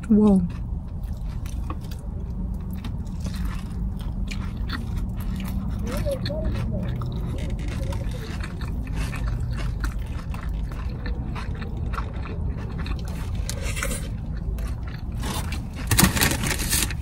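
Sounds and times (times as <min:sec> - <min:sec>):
person chewing and biting: 0:00.4 - 0:17.0.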